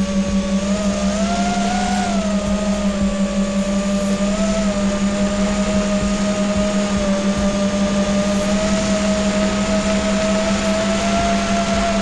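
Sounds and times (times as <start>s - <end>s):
constant low buzz: 0.0s - 12.0s
drone motors whining: 0.0s - 12.0s.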